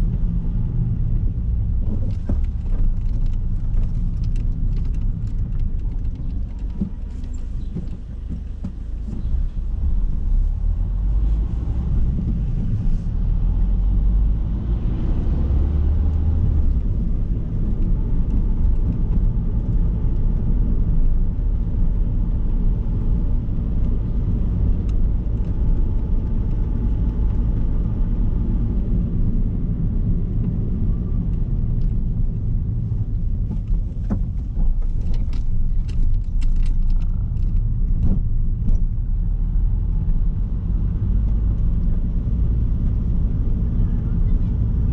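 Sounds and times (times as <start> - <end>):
car engine and tyres rumbling: 0.0 - 44.9.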